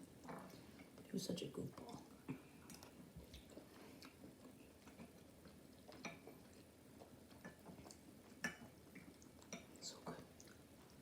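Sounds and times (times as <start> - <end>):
chewing and mouth clicks: 0.0 - 1.1, 1.8 - 11.0.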